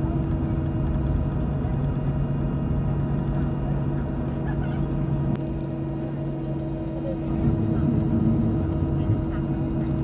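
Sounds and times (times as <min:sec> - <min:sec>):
jet cabin hum and rumble: 0:00.0 - 0:10.0.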